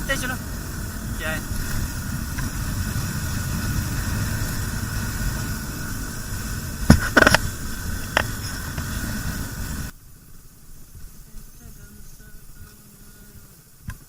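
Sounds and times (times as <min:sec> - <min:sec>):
motorcycle engine and wind rumble: 0:00.0 - 0:14.0.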